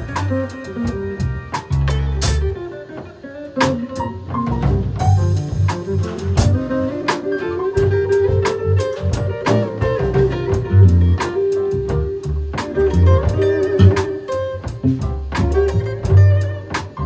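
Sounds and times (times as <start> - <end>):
bass notes: 0.0 - 17.0
drums steady beat: 0.0 - 17.0
electric guitar melody: 0.0 - 17.0.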